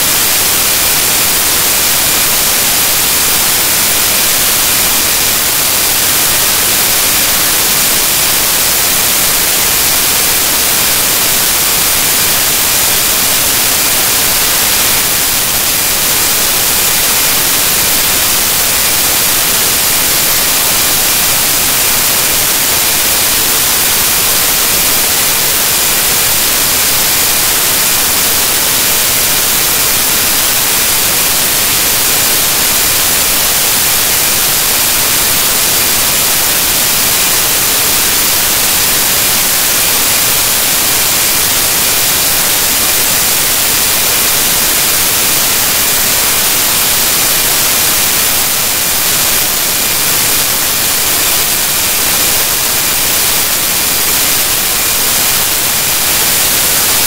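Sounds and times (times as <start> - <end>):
loud static hiss: 0.0 - 57.0.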